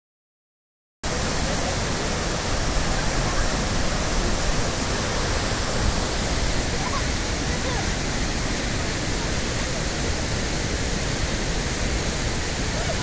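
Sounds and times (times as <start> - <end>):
waterfall rushing over rocks: 1.0 - 13.0.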